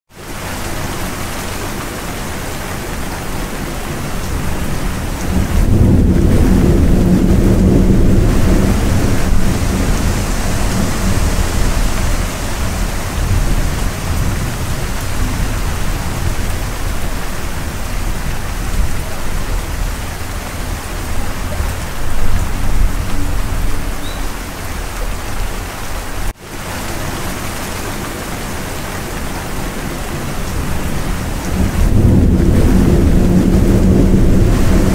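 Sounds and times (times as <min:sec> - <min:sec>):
heavy rain: 0:00.1 - 0:34.9
thunder rumbling: 0:00.5 - 0:26.3, 0:26.9 - 0:34.9.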